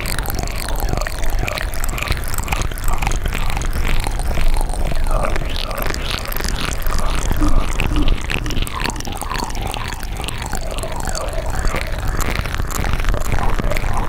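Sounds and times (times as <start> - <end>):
wet mouth clicks and smacks: 0.0 - 14.0.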